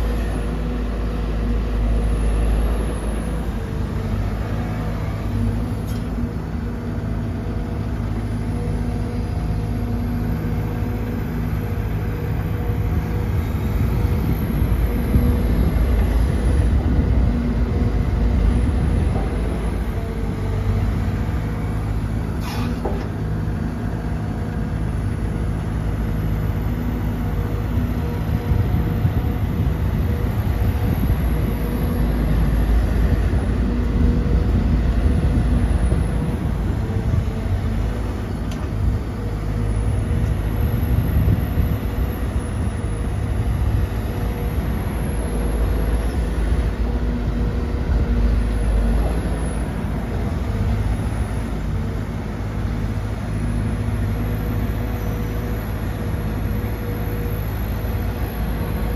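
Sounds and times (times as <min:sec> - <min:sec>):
excavator diesel engine working: 0:00.0 - 0:58.9.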